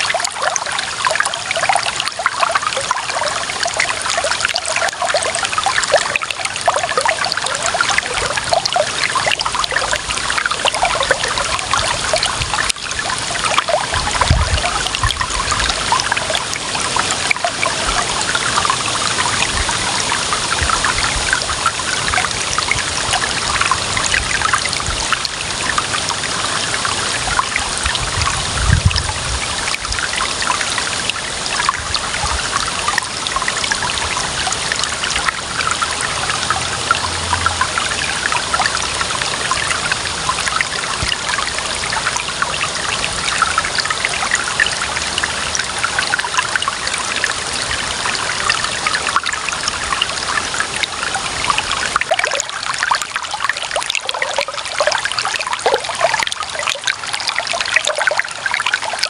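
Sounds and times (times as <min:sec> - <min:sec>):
water running and trickling: 0:00.0 - 0:59.0.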